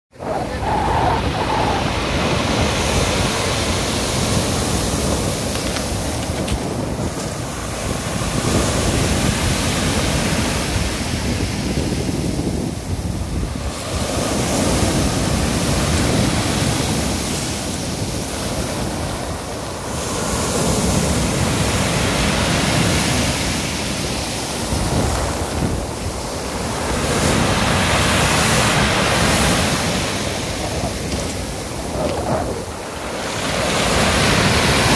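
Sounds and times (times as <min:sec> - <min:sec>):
waves breaking on pebble beach: 0:00.2 - 0:34.9.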